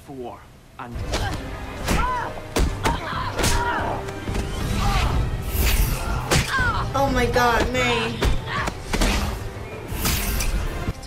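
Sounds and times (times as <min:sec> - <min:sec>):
tense music score: 0:00.8 - 0:11.0.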